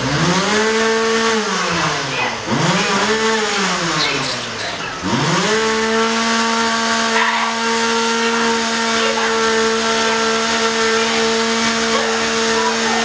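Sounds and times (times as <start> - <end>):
small motor running: 0.0 - 13.0.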